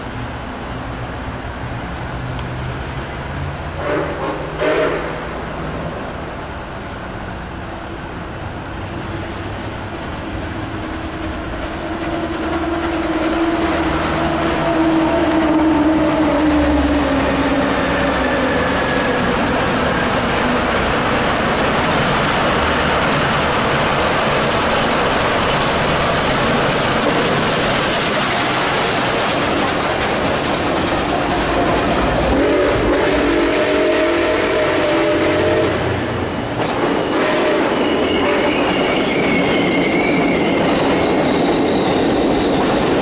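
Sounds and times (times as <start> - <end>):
steam locomotive rumble and exhaust: 0.0 - 43.0.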